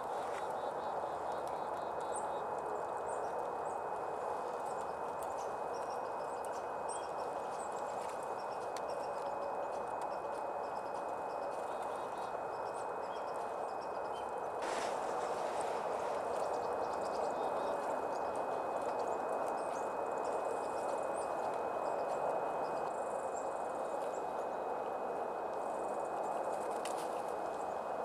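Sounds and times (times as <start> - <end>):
songbird chip notes: 0.0 - 24.9.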